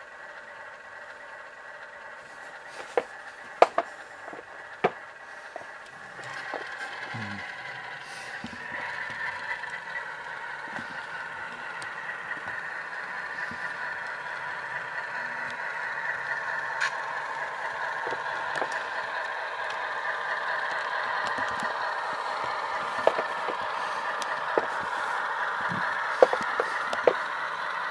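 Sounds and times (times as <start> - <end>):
model train wheels clicking on track: 0.0 - 27.9
simulated diesel engine sound: 0.0 - 27.9.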